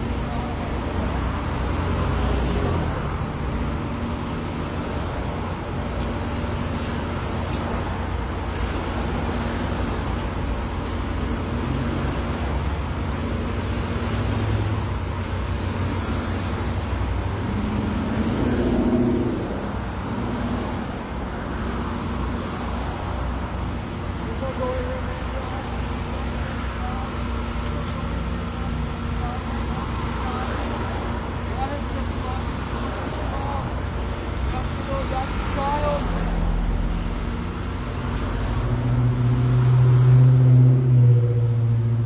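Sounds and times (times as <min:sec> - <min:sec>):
cars driving past: 0:00.8 - 0:24.2, 0:25.4 - 0:42.0.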